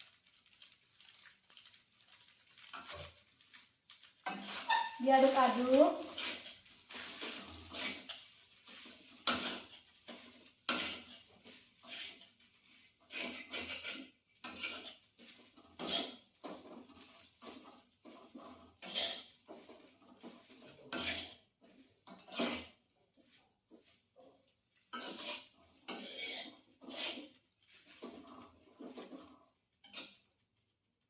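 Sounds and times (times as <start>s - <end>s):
spatula scraping a frying pan: 4.2s - 30.4s.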